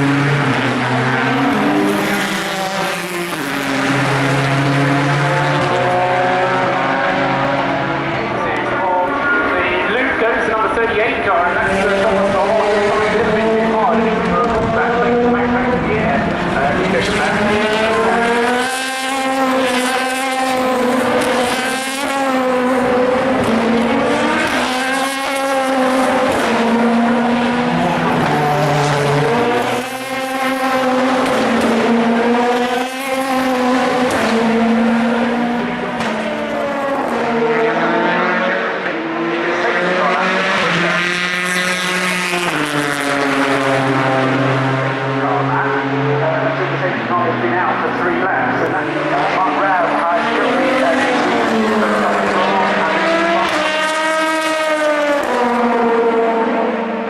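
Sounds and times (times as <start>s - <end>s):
race cars accelerating past: 0.0s - 57.0s.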